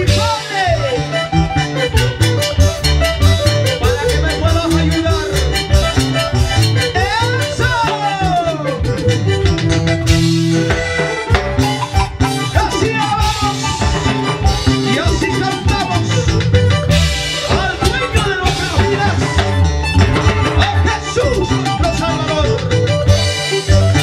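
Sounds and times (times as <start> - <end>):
band playing dance music: 0.0 - 24.0
sliding lead melody: 0.0 - 24.0.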